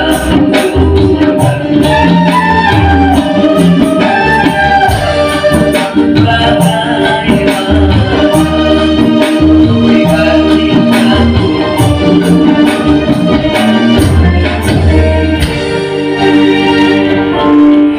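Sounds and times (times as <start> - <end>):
bass: 0.0 - 17.9
electric guitar: 0.0 - 17.9
keyboard: 0.0 - 17.9.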